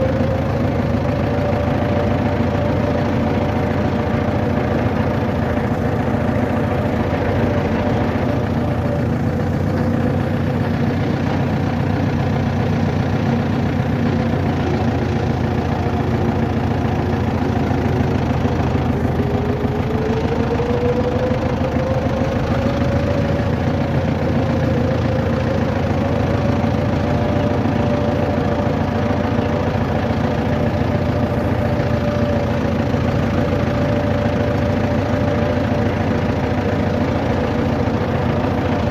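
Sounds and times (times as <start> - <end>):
engine whine: 0.0 - 38.9
vehicle engine running: 0.0 - 38.9.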